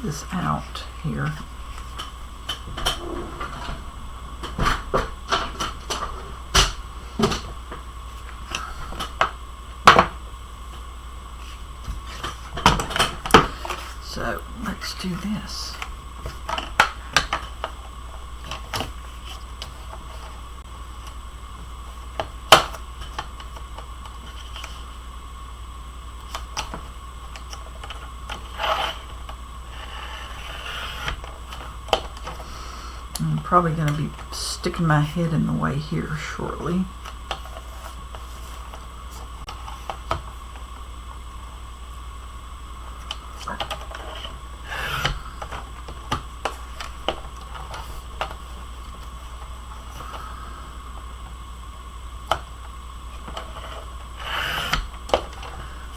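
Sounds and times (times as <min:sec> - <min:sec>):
low background hum: 0:00.0 - 0:55.9.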